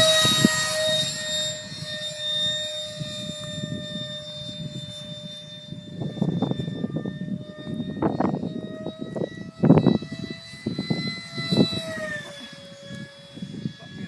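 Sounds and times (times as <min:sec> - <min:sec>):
electric fan high-pitched whine: 0:00.0 - 0:14.0
wind buffeting microphone: 0:00.0 - 0:14.0.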